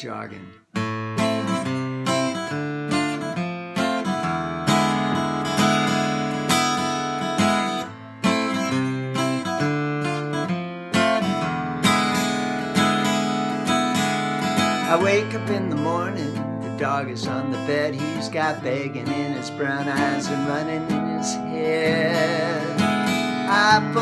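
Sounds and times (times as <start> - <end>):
acoustic guitar strumming chords: 0.1 - 24.0.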